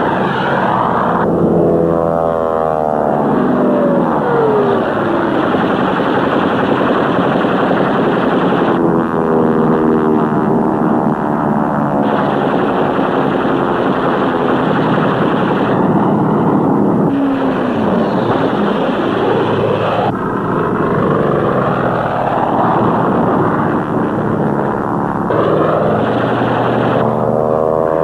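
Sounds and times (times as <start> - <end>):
propeller aircraft flying past: 0.0 - 28.0.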